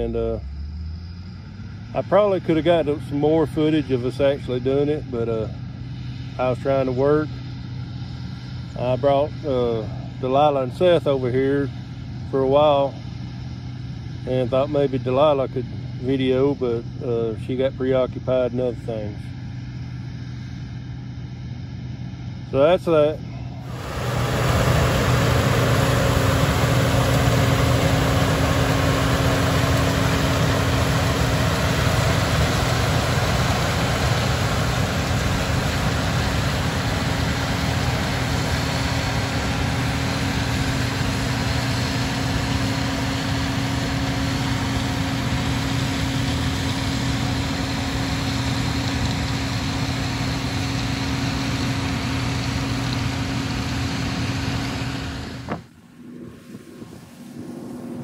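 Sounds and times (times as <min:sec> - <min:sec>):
combine engine drone: 0:00.0 - 0:58.0
threshing machinery noise: 0:00.0 - 0:58.0.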